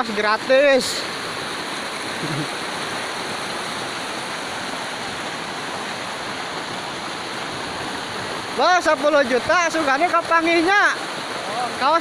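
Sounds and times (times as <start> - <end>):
river rushing over boulders: 0.0 - 12.0.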